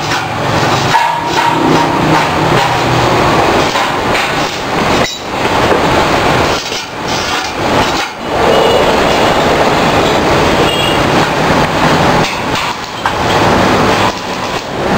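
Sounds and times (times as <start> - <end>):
metalworking machine rattling: 0.0 - 14.9.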